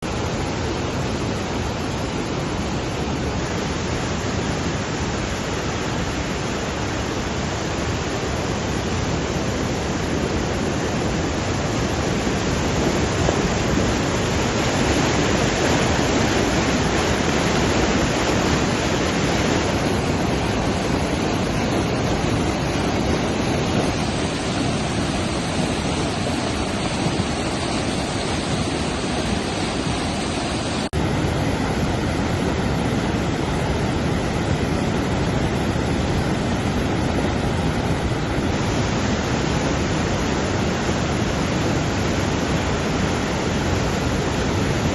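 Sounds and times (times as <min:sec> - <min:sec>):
floodwater rushing: 0:00.0 - 0:44.9.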